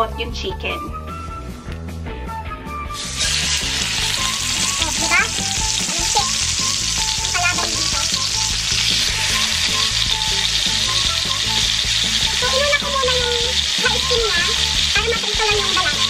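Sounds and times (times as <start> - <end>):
chicken sizzling in hot oil: 2.9 - 16.0.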